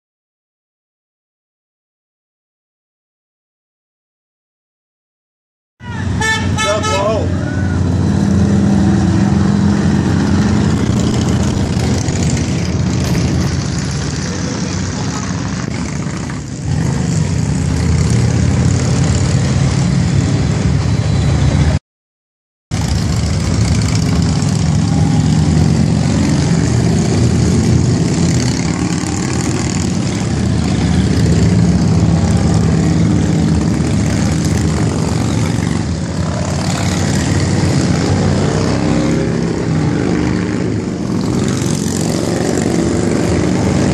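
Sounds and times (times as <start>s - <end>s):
motorcycles riding past: 6.0s - 21.8s, 22.8s - 43.9s.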